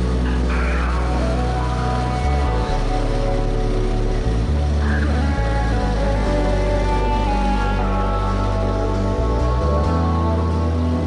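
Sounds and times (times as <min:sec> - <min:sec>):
background music with held bass: 0:00.0 - 0:11.0.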